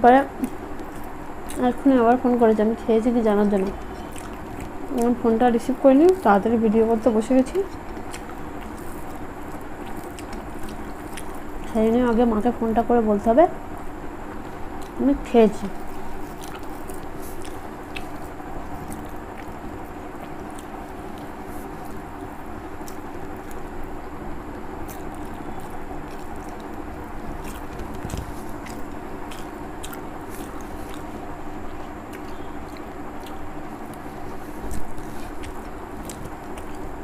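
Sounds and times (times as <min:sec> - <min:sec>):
steady low hum: 0:00.0 - 0:37.0
chewing and mouth sounds: 0:00.3 - 0:12.4, 0:13.8 - 0:37.0.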